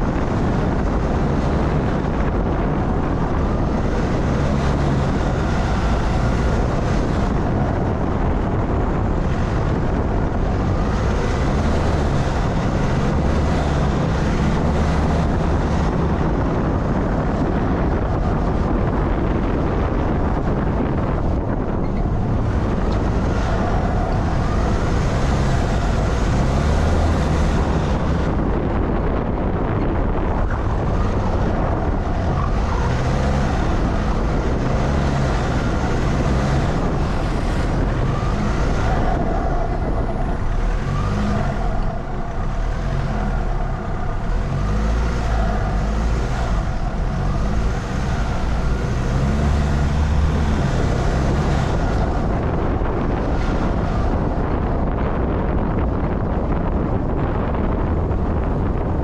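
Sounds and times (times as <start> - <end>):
heavy low rumble: 0.0 - 59.0
vehicle engine running: 0.0 - 59.0.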